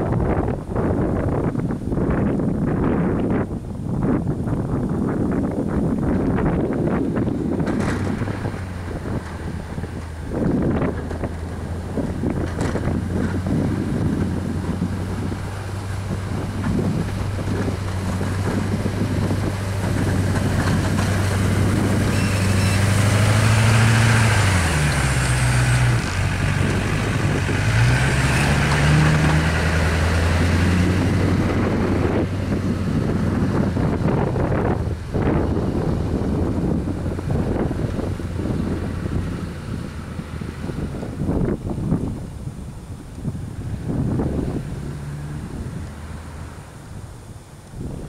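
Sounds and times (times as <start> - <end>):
diesel truck engine under load: 0.0 - 48.0
snow hissing along plow blade: 3.3 - 48.0.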